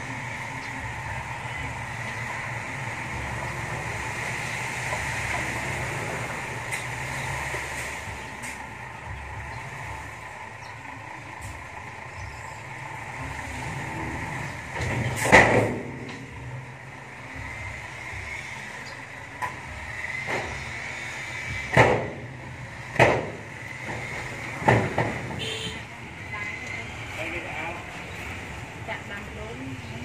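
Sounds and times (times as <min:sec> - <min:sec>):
dump truck engine running: 0:00.0 - 0:30.0.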